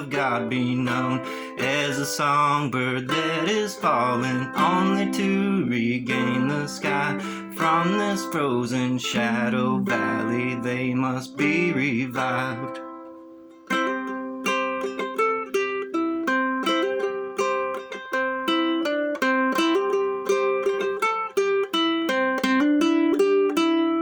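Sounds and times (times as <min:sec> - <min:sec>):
plucked string instrument: 0:00.0 - 0:24.0.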